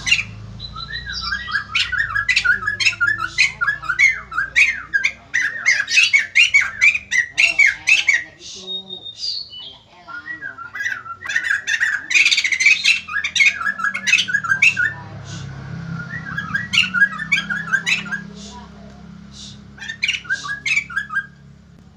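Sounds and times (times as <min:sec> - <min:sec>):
bird chattering loudly: 0:00.0 - 0:21.8.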